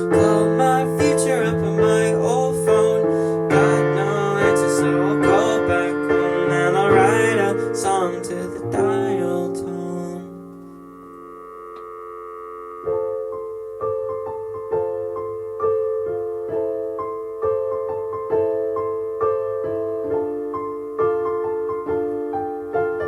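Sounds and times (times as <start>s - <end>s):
piano playing chords: 0.0s - 23.0s.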